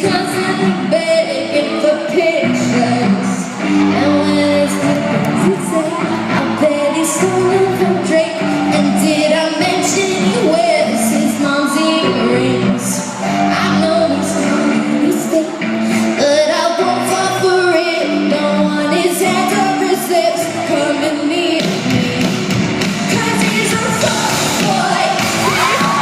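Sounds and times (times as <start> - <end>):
person singing: 0.0 - 26.0
pop-rock band playing: 0.0 - 26.0.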